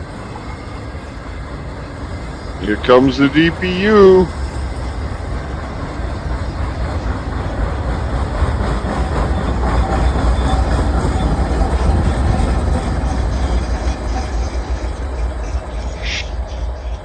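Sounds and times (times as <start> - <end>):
diesel locomotive engine rumble: 0.0 - 17.0
train wheels rolling on rails: 0.0 - 17.0.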